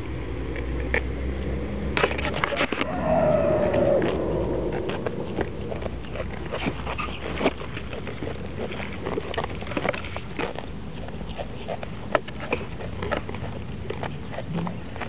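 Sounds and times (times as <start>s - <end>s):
goat biting grass: 2.0s - 15.0s.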